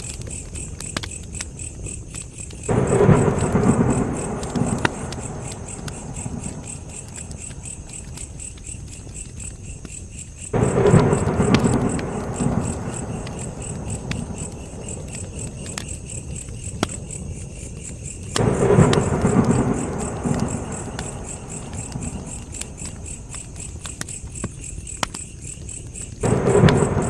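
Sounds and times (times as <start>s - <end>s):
campfire crackling: 0.0s - 27.0s
crickets chirping: 0.0s - 27.0s.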